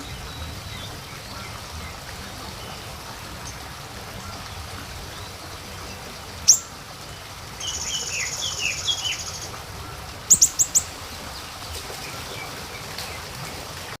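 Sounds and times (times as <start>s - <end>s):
songbird chirps: 0.0s - 13.7s
steady background hiss: 0.0s - 13.9s.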